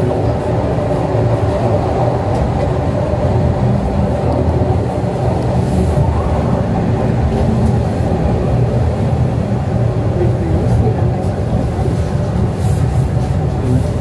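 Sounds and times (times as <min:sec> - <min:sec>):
funicular wheels rumbling on track: 0:00.0 - 0:14.0.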